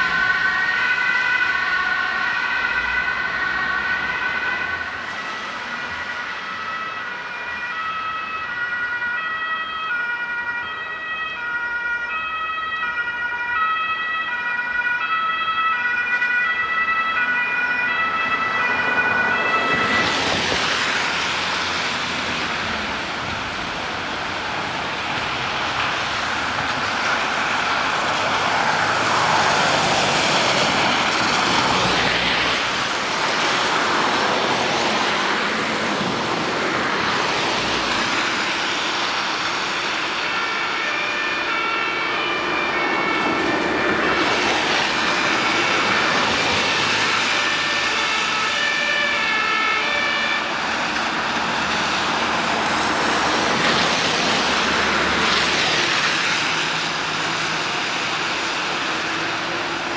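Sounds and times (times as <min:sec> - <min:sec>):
traffic rushing on wet road: 0:00.0 - 0:59.9
two-tone emergency siren: 0:00.0 - 0:59.9.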